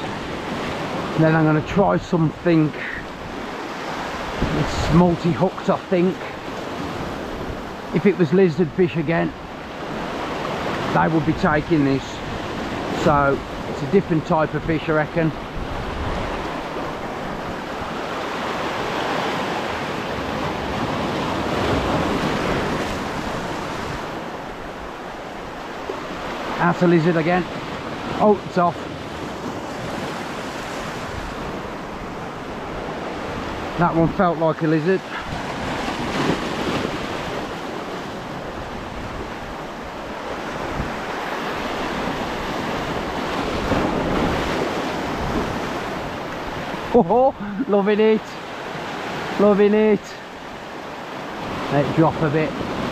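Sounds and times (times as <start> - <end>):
waves breaking over rocks: 0.0 - 52.9.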